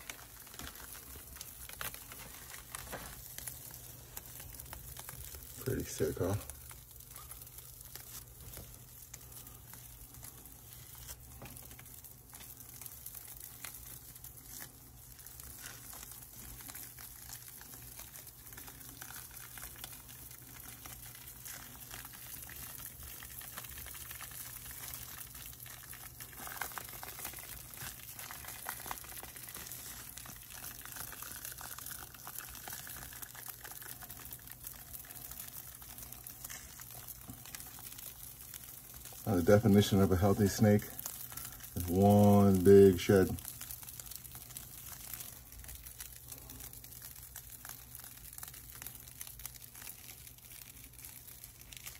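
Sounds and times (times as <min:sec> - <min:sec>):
low steady hum: 0:00.0 - 0:48.4
papery crinkling and crackling: 0:00.0 - 0:51.9.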